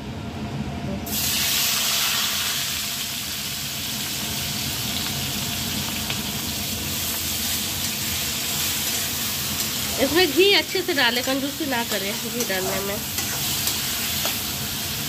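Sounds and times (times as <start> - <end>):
food sizzling in hot oil: 1.1 - 15.0.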